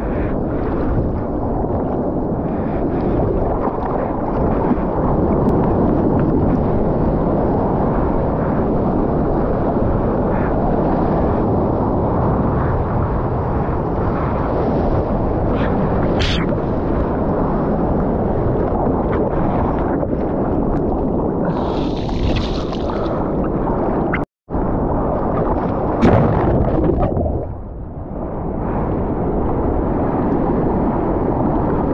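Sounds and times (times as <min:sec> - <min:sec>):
muffled rush of seawater: 0:00.0 - 0:31.9.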